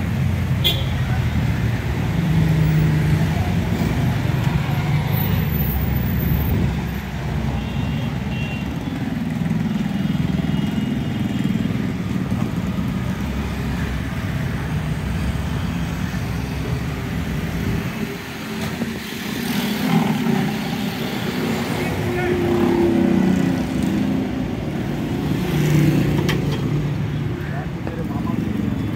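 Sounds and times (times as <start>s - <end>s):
traffic engine rumble: 0.0s - 28.9s.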